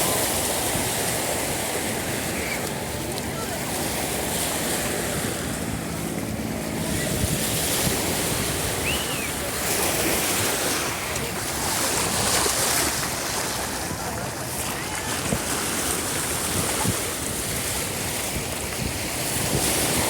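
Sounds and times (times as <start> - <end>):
waves washing onto sandy beach: 0.0 - 20.0
wind on microphone: 0.0 - 20.0.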